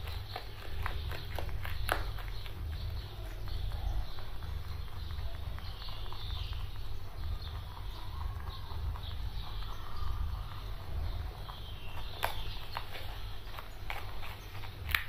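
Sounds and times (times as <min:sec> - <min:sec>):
rabbits chewing: 0:00.0 - 0:15.0
steady low hum: 0:00.0 - 0:15.0.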